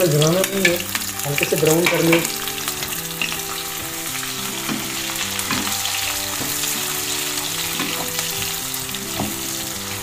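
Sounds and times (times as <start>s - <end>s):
onions sizzling in hot oil: 0.0s - 10.0s
soft background music: 0.0s - 10.0s.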